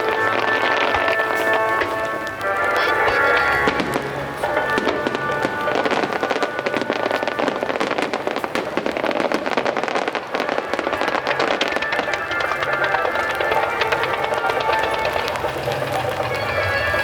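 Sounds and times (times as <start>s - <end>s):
fireworks crackling pops: 0.0s - 17.0s
music playing: 0.0s - 17.0s.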